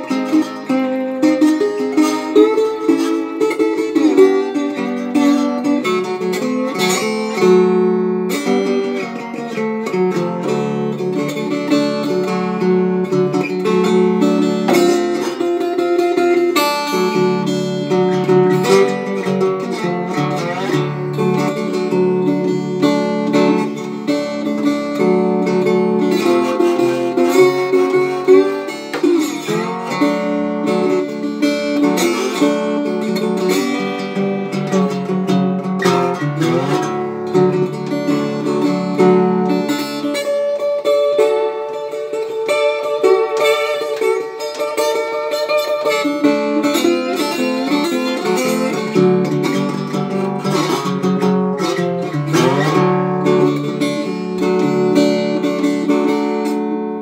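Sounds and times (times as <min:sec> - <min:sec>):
slide guitar fingerpicking: 0:00.0 - 0:57.0.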